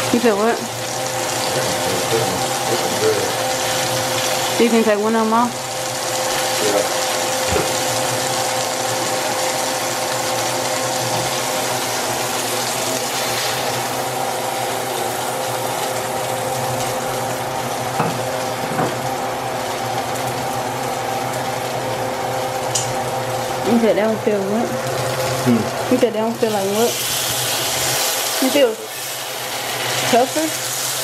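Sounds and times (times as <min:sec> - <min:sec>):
steady mechanical hum: 0:00.0 - 0:31.0
steak sizzling in hot oil: 0:00.0 - 0:31.0.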